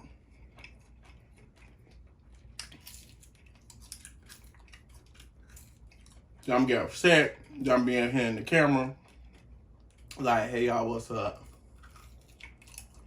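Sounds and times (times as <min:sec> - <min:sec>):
faint chewing and mouth smacking: 0:00.0 - 0:10.6, 0:11.3 - 0:13.0.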